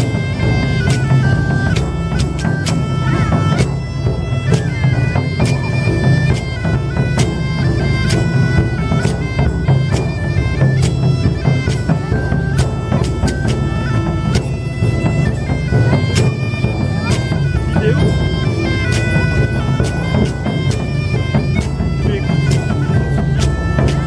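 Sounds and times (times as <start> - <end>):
bagpipe folk tune: 0.0 - 24.0.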